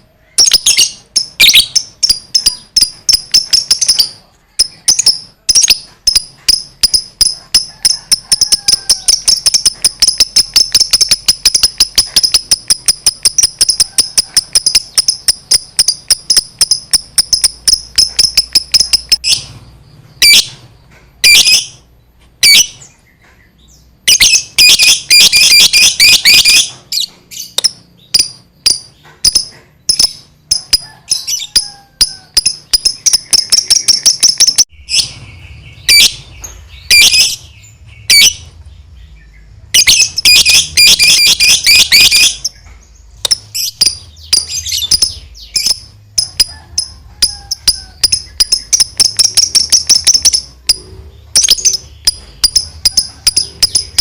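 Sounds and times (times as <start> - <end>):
lovebird chattering song: 0.0 - 54.0.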